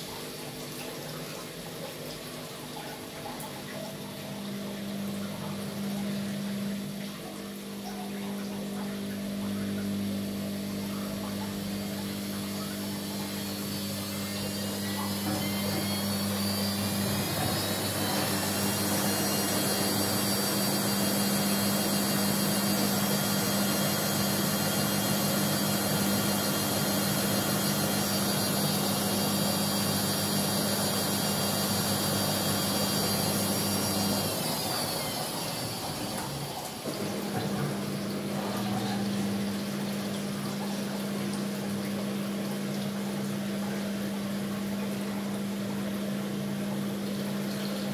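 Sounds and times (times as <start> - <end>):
drain pump humming: 0.0 - 47.9
washing machine drum spinning: 0.0 - 47.9.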